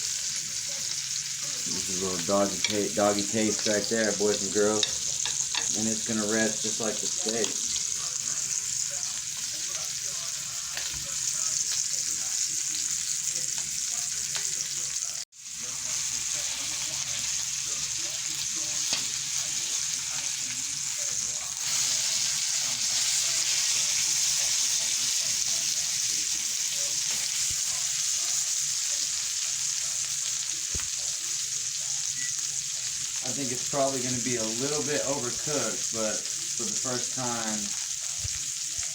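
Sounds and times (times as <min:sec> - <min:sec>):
butter sizzling in frying pan: 0:00.0 - 0:38.9.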